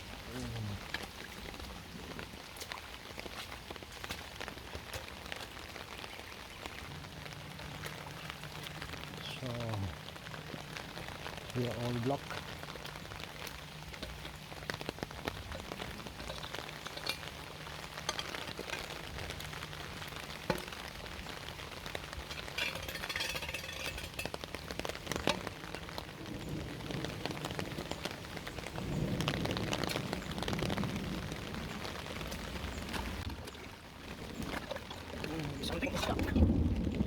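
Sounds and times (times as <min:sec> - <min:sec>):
rush of water: 0:00.0 - 0:37.0
water patter and crackle: 0:00.0 - 0:37.0.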